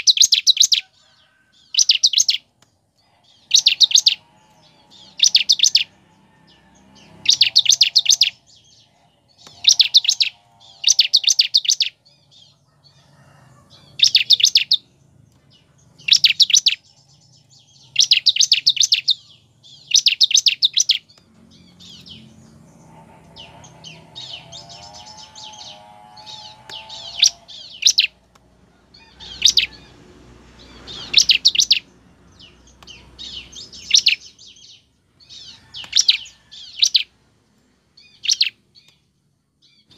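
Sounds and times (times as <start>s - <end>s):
bird chirping rapidly: 0.0s - 1.0s, 1.6s - 2.5s, 3.2s - 12.7s, 13.7s - 15.0s, 15.6s - 37.2s, 38.0s - 39.9s.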